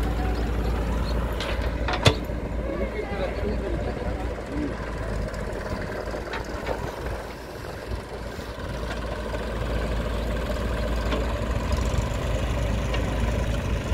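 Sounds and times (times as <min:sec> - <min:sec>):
backhoe loader idling: 0:00.0 - 0:13.9
tractors driving past: 0:00.0 - 0:13.9.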